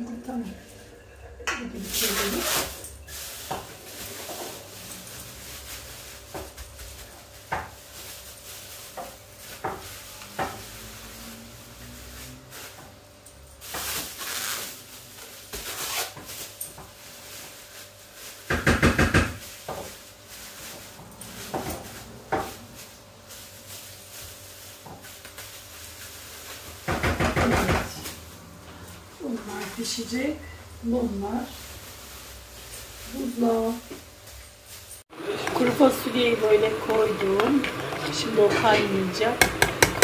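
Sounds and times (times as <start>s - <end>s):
plastic bag rustling: 1.7s - 27.0s, 30.8s - 39.3s.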